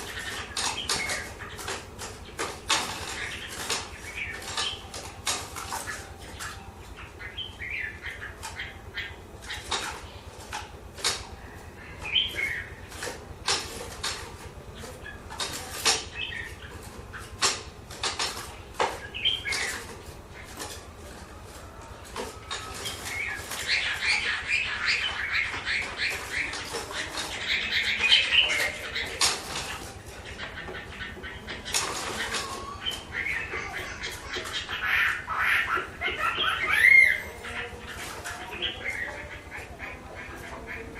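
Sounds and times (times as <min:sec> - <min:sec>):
bird singing warbled phrases: 0:00.0 - 0:40.9.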